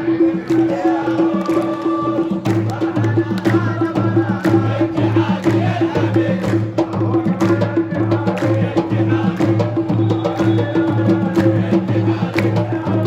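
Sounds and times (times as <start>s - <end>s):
crowd chanting: 0.0s - 13.0s
steady drum beat: 0.0s - 13.0s.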